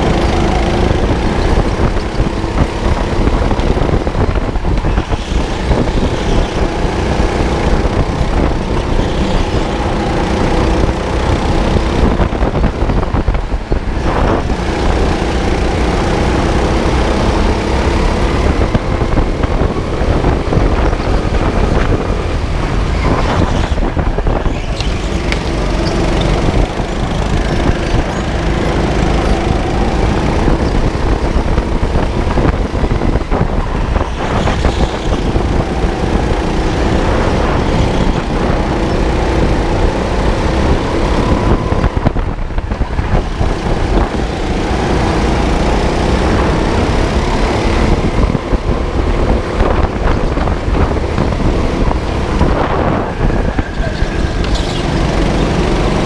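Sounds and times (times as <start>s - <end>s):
go-kart motor: 0.0s - 56.0s
wind rumble on microphone: 0.0s - 56.0s.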